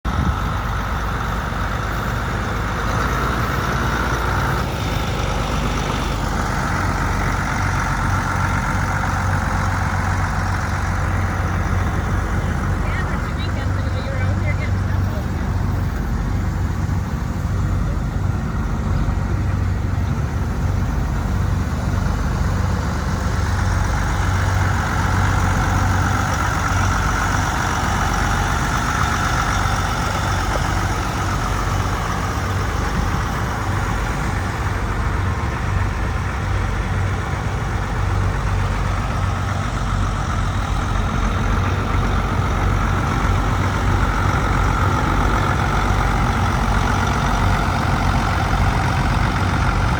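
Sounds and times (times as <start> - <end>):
diesel tractor engine idling: 0.0 - 49.9.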